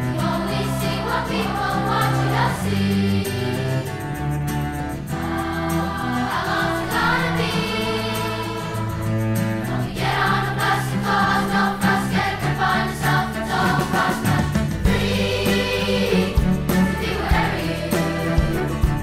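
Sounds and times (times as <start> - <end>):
choir singing held notes: 0.0 - 4.4, 5.0 - 19.0
rhythmic accompaniment: 0.0 - 19.0.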